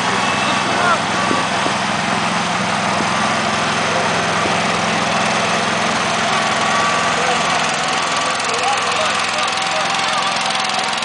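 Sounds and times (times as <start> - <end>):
garden tractor engine running: 0.0 - 11.0.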